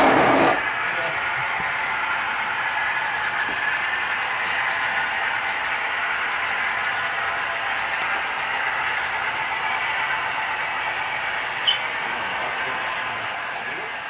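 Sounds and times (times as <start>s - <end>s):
model train running hiss: 0.0s - 14.0s.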